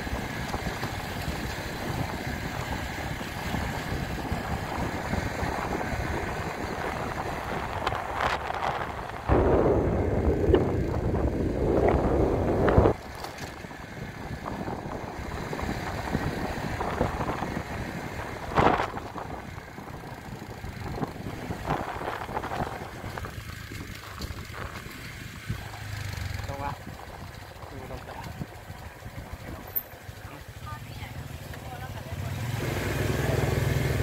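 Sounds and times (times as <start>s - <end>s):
wind rushing on microphone: 0.0s - 29.6s
motorcycle engine: 0.0s - 34.0s
tyres on dirt road: 0.0s - 34.0s.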